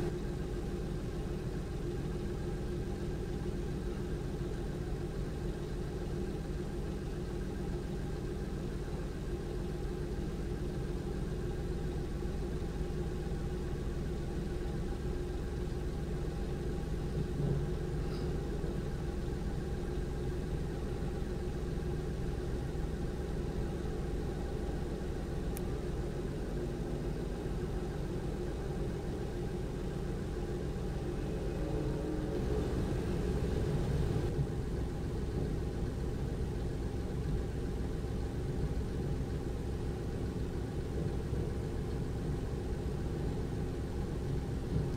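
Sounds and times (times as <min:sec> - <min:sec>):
engines idling drone: 0:00.0 - 0:44.9.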